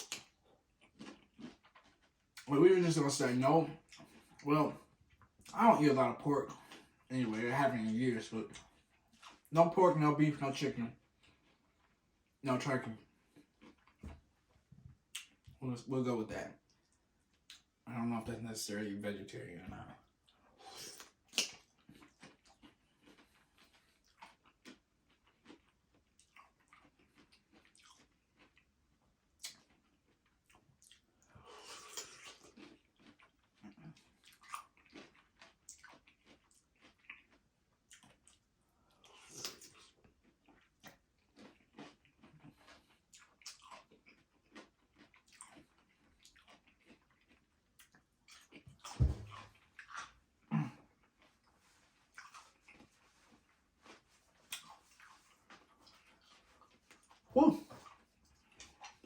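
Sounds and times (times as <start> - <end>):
person chewing: 0.0 - 9.7, 10.5 - 15.5, 16.6 - 17.8, 19.6 - 59.0.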